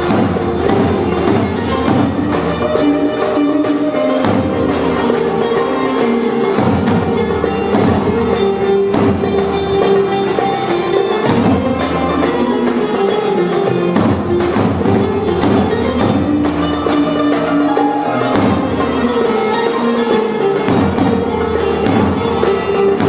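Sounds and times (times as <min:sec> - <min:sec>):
folk band playing melody: 0:00.0 - 0:23.0
percussion strokes: 0:00.0 - 0:23.0.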